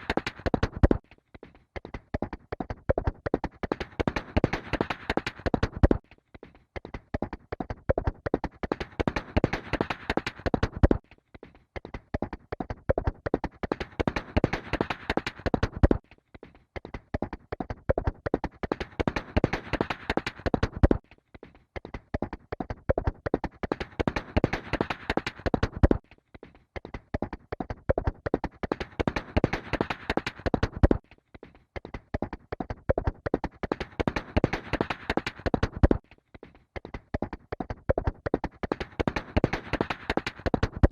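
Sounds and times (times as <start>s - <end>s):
horse hooves galloping: 0.0s - 1.0s, 1.8s - 6.0s, 6.9s - 11.0s, 11.9s - 16.0s, 17.1s - 21.0s, 21.9s - 26.0s, 26.8s - 31.0s, 31.8s - 36.0s, 36.8s - 40.9s.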